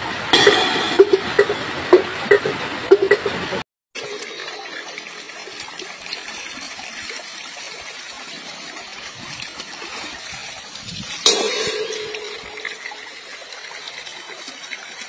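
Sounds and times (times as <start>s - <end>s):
water trickling and flowing: 0.0s - 15.0s.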